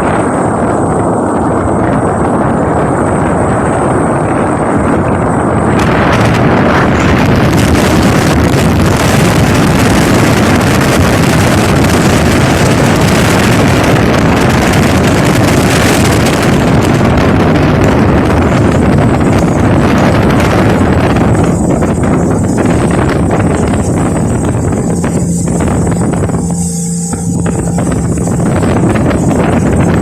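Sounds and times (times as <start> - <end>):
motorboat engine running: 0.0 - 30.0
rush of water: 0.0 - 30.0
wind buffeting microphone: 0.0 - 30.0.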